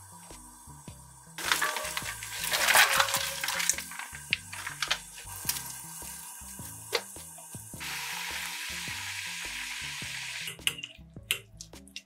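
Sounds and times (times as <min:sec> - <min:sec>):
pot boiling hiss: 0:00.0 - 0:10.6.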